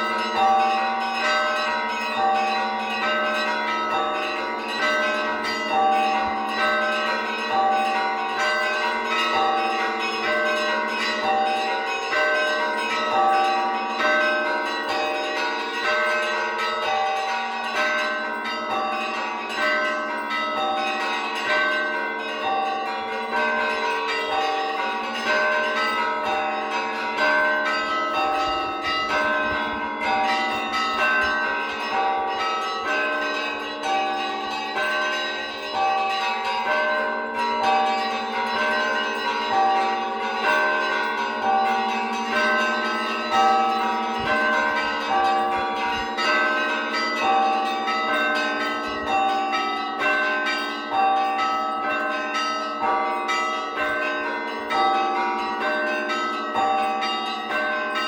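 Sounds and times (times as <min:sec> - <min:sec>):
large bell humming: 0:00.0 - 0:58.0
small church bells ringing: 0:00.0 - 0:58.0.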